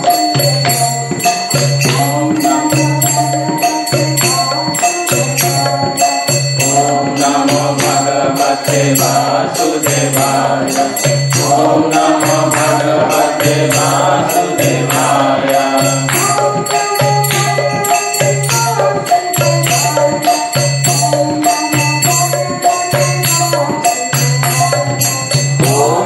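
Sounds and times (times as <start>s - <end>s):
hand cymbals steady beat: 0.0s - 26.0s
woman singing devotional song: 0.0s - 26.0s.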